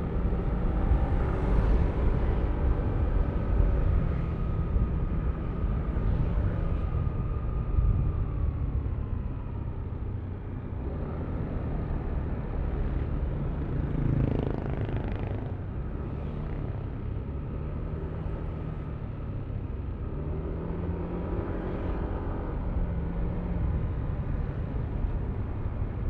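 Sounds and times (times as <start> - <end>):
road and wind rumble: 0.0 - 26.0.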